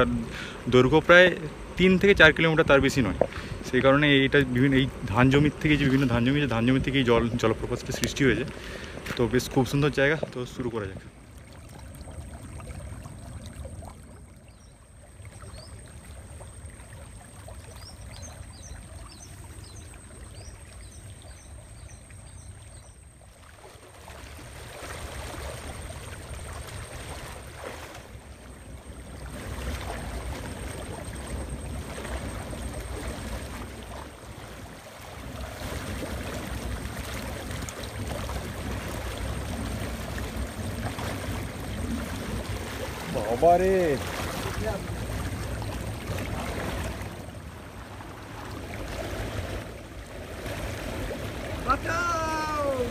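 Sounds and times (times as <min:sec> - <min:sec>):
legs wading through water: 0:00.0 - 0:52.9
stream rushing and splashing: 0:00.0 - 0:52.9.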